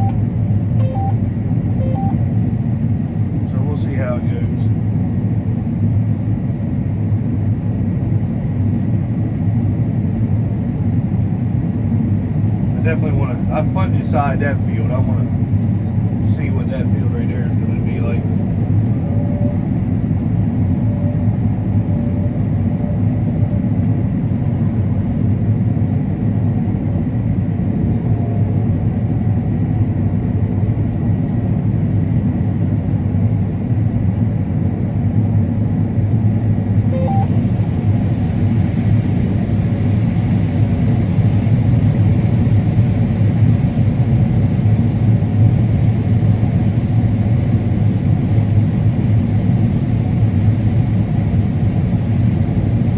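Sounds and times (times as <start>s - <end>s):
combine harvester drone: 0.0s - 52.9s.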